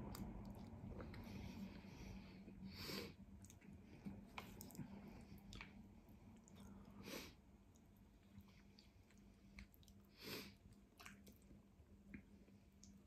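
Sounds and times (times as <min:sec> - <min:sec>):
faint close-up chewing: 0:00.0 - 0:13.0.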